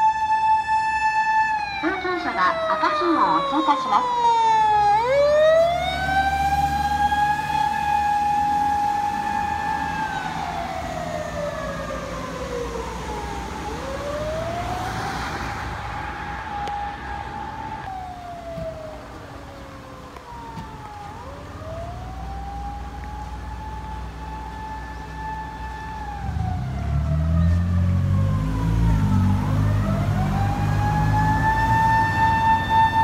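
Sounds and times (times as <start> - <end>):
emergency vehicle siren wailing: 0.0 - 33.0
road traffic rumbling: 0.0 - 33.0.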